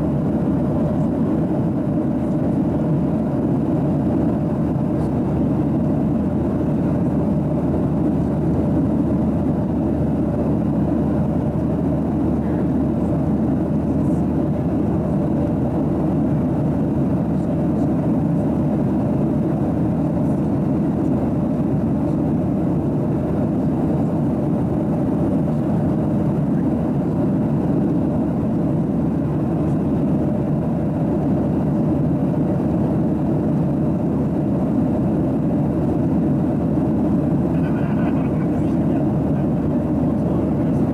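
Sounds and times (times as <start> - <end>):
airplane cabin noise: 0.0 - 40.9.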